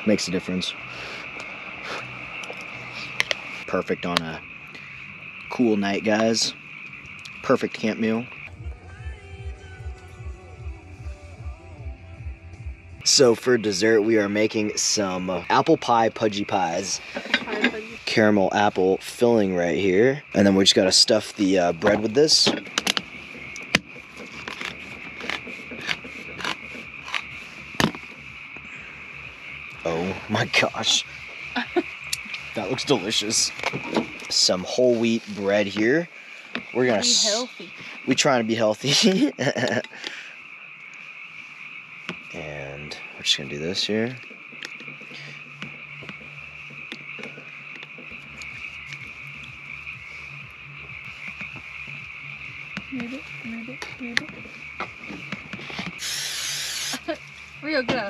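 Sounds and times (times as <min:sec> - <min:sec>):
frogs chorusing: 0:00.0 - 0:58.0.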